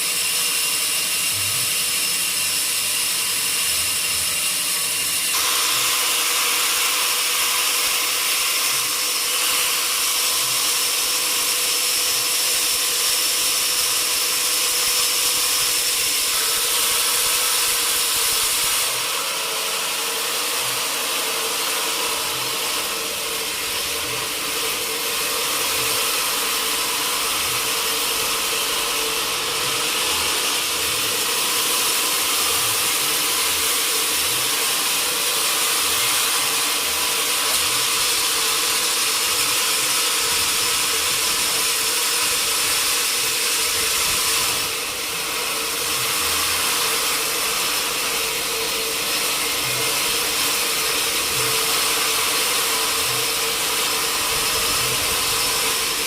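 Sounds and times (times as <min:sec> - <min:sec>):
constant machine hum: 0:00.0 - 0:56.0
sawmill machinery clatter: 0:00.0 - 0:56.0.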